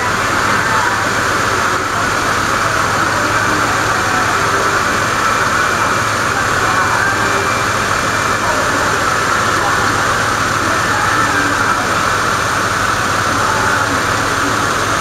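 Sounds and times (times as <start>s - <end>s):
diesel truck engines idling: 0.0s - 15.0s.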